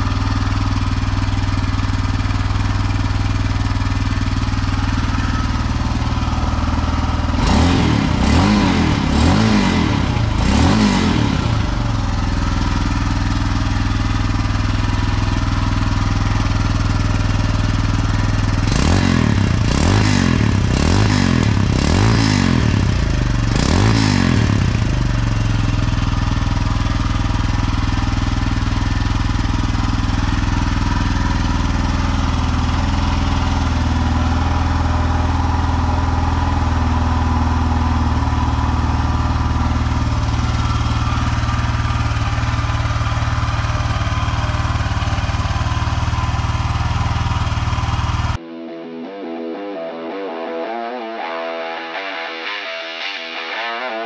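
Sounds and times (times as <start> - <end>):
motorcycle engine idling: 0.0 - 48.4.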